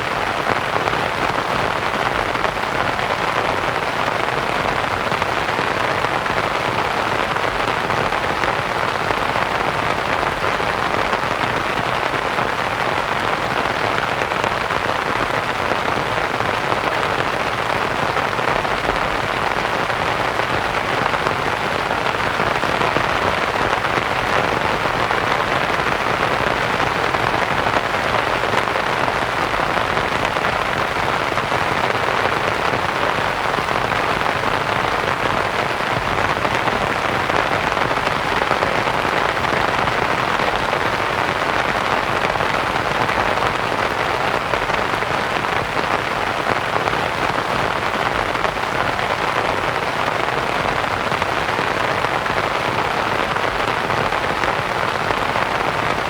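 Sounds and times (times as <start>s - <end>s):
rain pattering on a tent: 0.0s - 56.0s.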